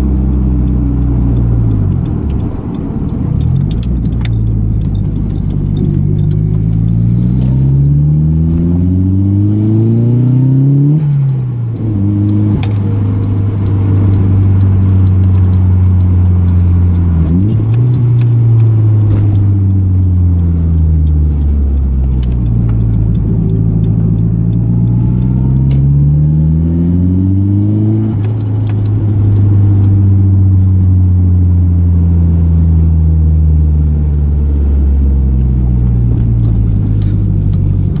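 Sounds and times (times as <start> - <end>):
car engine while driving: 0.0 - 38.0.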